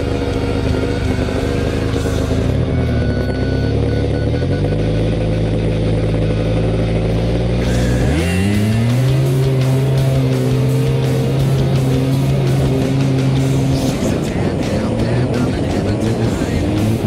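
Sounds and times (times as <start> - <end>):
music: 0.0 - 17.0
snowmobile engine revving: 0.0 - 17.0.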